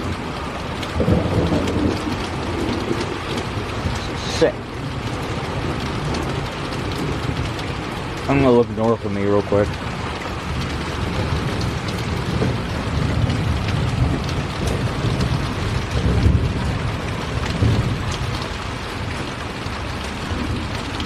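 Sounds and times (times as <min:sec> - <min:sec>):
heavy rain: 0:00.0 - 0:21.0
thunder rumbling: 0:00.0 - 0:21.0.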